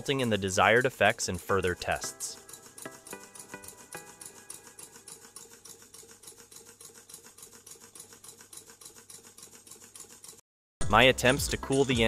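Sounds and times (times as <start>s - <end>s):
small engine fast ticking: 0.0s - 10.4s.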